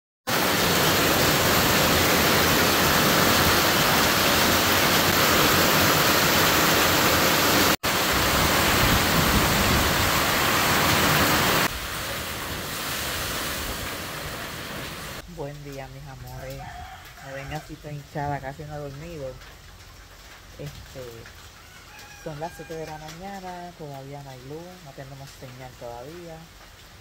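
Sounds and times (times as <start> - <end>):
heavy rain pouring: 0.3 - 27.0.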